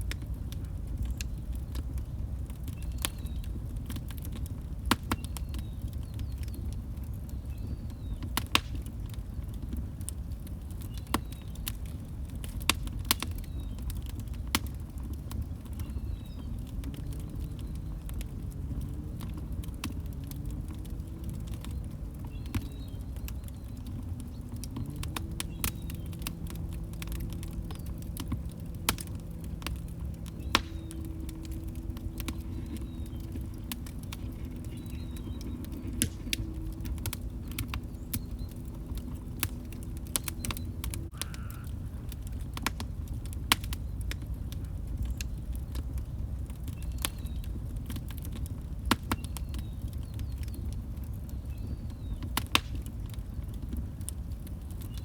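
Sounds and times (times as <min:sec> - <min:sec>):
fire flames rumbling: 0:00.0 - 0:55.0
wood crackling and popping: 0:00.0 - 0:55.0.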